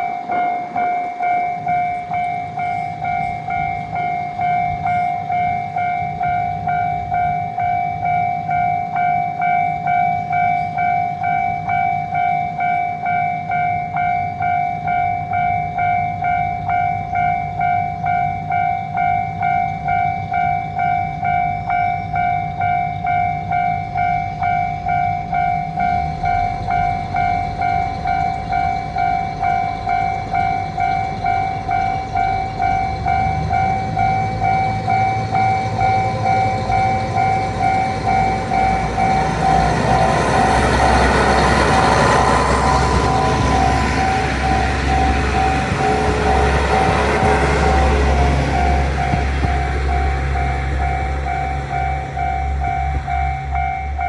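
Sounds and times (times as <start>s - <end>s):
railroad crossing alarm ringing: 0.0s - 54.0s
train rumble: 0.0s - 54.0s.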